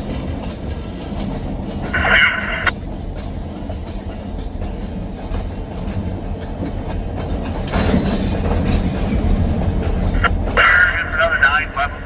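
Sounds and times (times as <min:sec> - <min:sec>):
freight train rumbling past: 0:00.0 - 0:12.0
train wheel clicks: 0:00.0 - 0:12.0.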